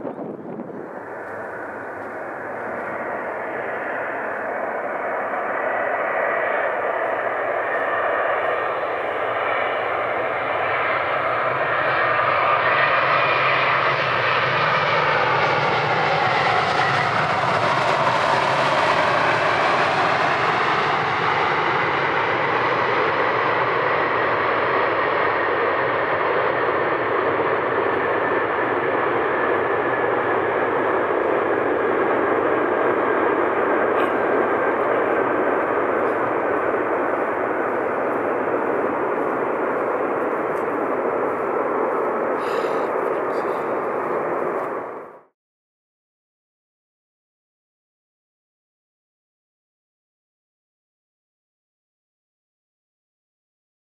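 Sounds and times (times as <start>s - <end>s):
jet airliner engines whining: 0.0s - 45.3s.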